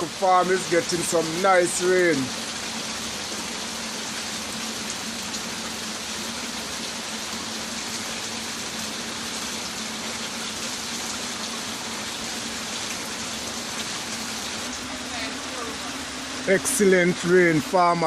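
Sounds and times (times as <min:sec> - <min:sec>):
rain falling on plants: 0:00.0 - 0:18.0.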